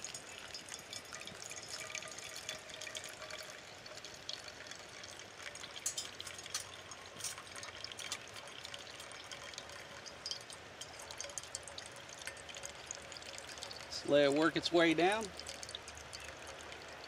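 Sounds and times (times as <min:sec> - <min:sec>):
coffee trickling into a mug: 0:00.0 - 0:17.0
small drips: 0:00.0 - 0:17.0.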